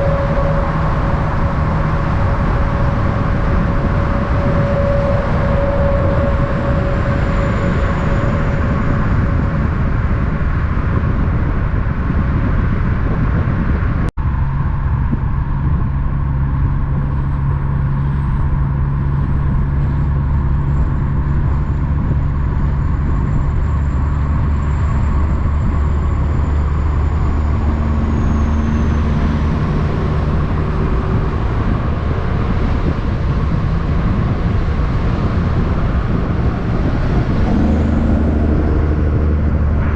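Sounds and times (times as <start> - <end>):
low engine hum: 0.0 - 39.9
road traffic: 0.0 - 39.9.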